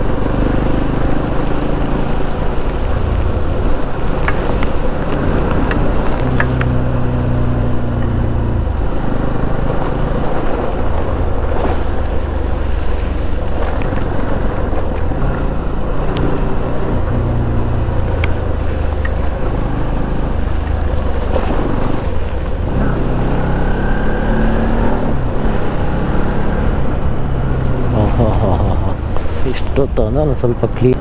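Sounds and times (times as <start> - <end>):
motorcycle engine hum: 0.0 - 31.0.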